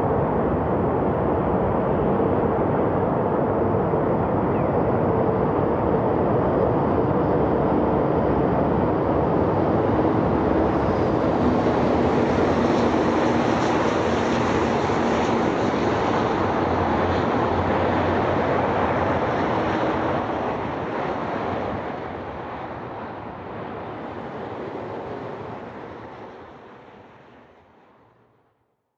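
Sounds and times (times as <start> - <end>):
jet engines roaring: 0.1 - 27.3.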